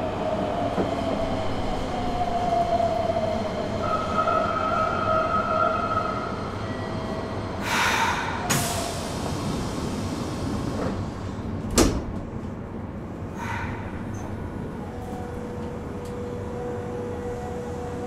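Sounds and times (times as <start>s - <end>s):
train steady rumble: 0.0s - 18.0s.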